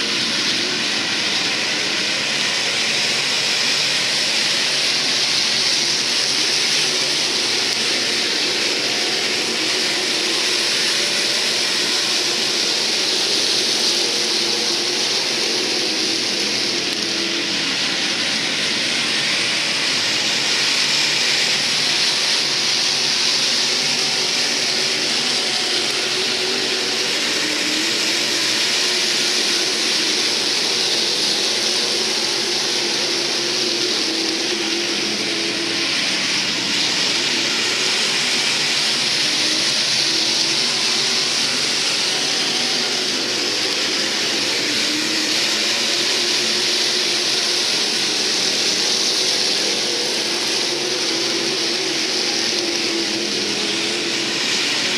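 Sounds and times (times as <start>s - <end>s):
race car engines roaring: 0.0s - 54.9s.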